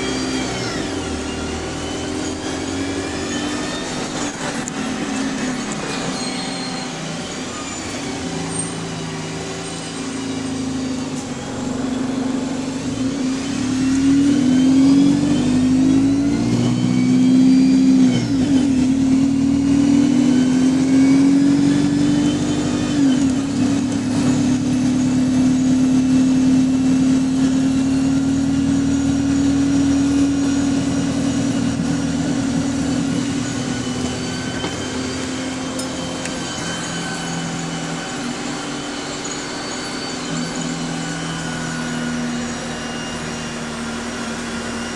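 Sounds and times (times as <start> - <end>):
bus engine pulling away: 0.0 - 44.9
gearbox whine: 0.0 - 44.9.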